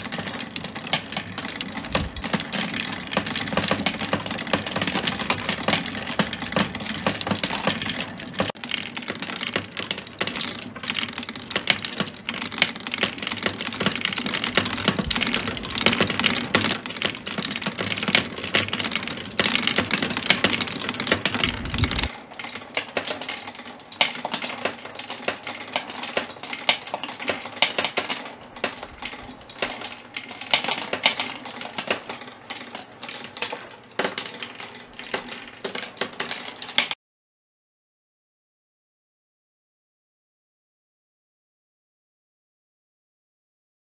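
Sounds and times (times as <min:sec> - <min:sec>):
marbles clicking on wooden tracks: 0:00.0 - 0:37.0.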